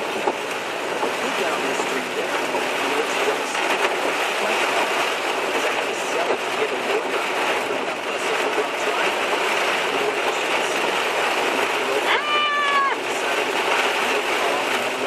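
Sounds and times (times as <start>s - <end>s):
heavy rain on a car: 0.0s - 15.0s
tyres running through water: 0.0s - 15.0s.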